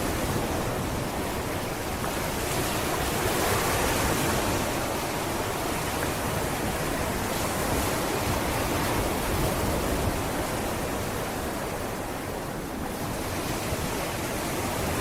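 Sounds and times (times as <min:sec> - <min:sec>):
sea waves washing onto beach: 0:00.0 - 0:15.0.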